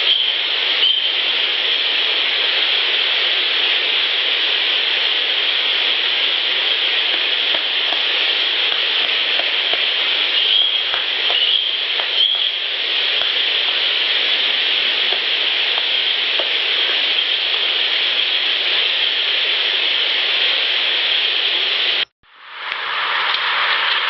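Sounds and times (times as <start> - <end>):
steady loud hissing: 0.0 - 24.0.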